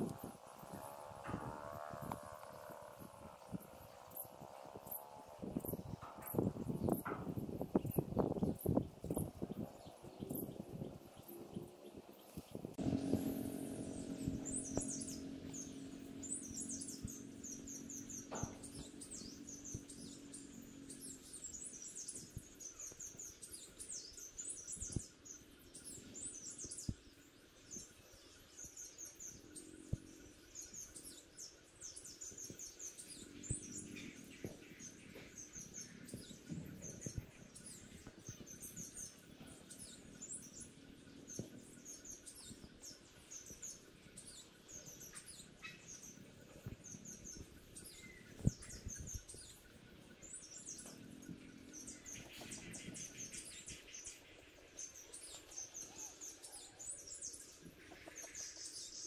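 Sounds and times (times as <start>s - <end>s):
low steady hum: 0.0s - 57.8s
small birds chirping: 0.0s - 59.0s.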